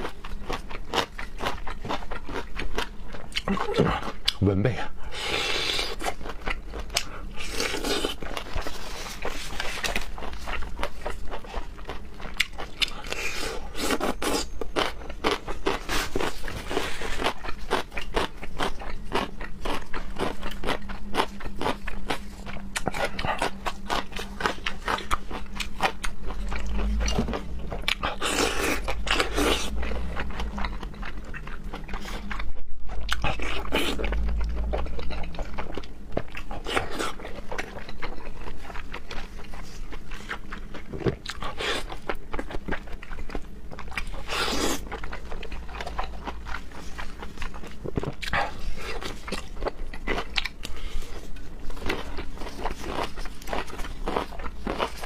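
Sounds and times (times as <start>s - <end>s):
crunchy bites and moist chewing: 0.0s - 55.0s.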